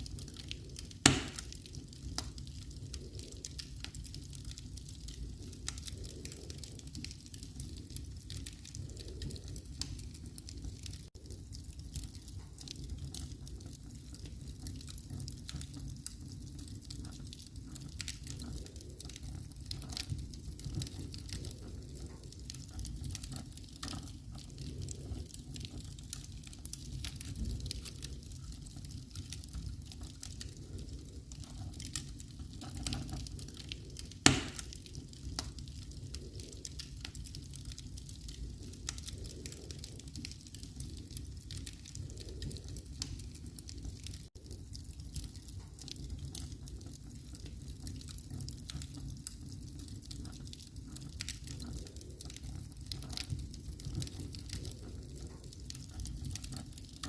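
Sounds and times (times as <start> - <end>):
fire crackling and popping: 0.0 - 57.0
low rumble of flame: 0.0 - 57.0.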